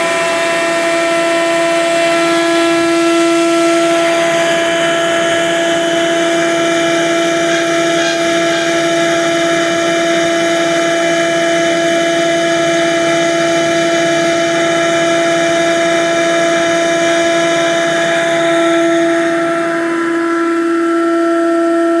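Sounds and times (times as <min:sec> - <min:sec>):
planer whining: 0:00.0 - 0:22.0.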